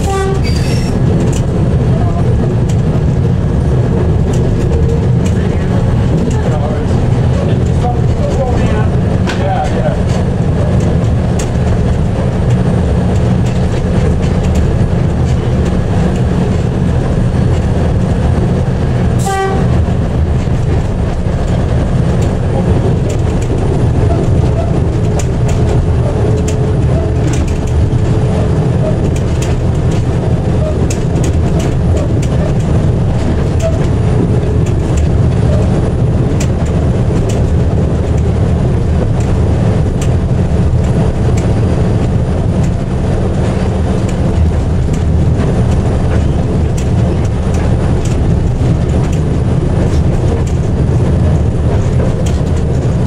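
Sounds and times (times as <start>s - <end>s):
diesel locomotive engine drone: 0.0s - 53.0s
wheels clicking over rails: 0.0s - 53.0s.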